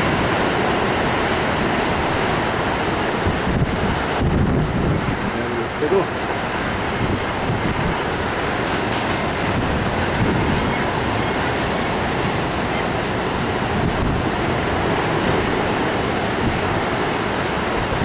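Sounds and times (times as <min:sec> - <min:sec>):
storm surf breaking on shore: 0:00.0 - 0:18.0
wind buffeting microphone: 0:00.0 - 0:18.0.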